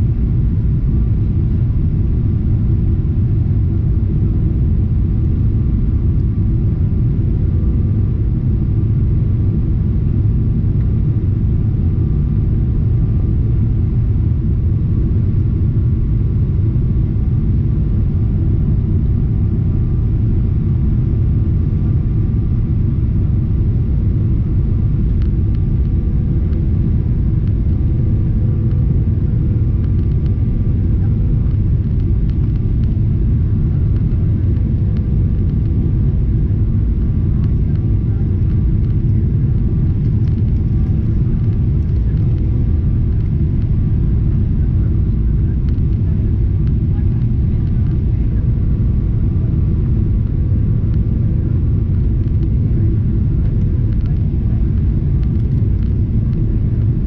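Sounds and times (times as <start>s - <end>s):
jet engine rumble: 0.0s - 57.0s.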